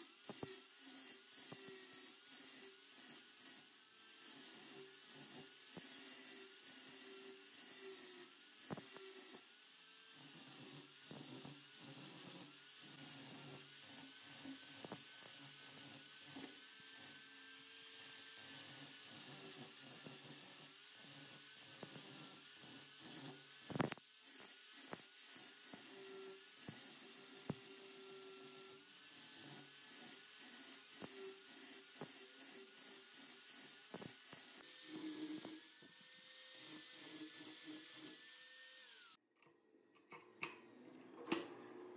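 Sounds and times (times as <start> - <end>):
angle grinder grinding steel: 0.0 - 39.2.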